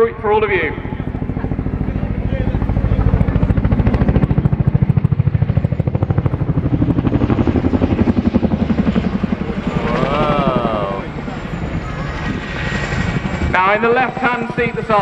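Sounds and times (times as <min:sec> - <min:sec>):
turbine engine noise: 0:00.0 - 0:15.0.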